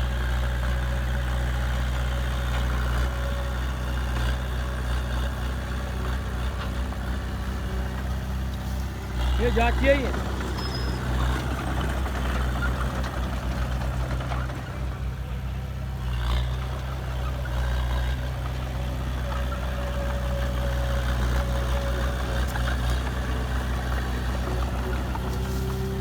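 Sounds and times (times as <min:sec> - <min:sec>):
diesel machine engine droning: 0:00.0 - 0:26.0.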